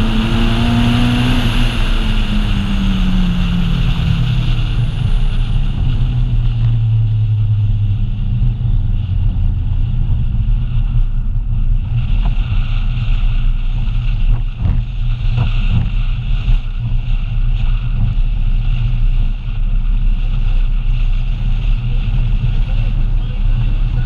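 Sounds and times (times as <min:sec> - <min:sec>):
car engine running hard: 0:00.0 - 0:24.0.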